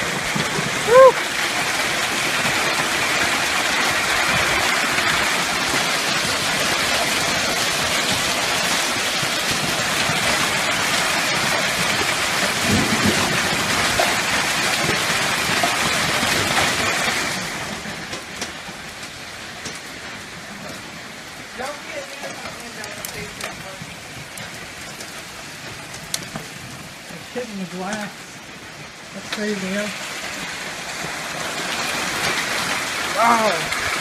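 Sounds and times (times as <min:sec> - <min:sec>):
heavy hail pelting ground: 0:00.0 - 0:34.0
rain: 0:00.0 - 0:34.0.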